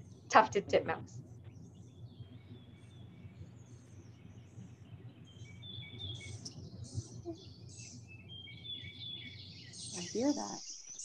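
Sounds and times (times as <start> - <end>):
birds chirping: 0.0 - 11.0
faint low hum: 0.0 - 11.0.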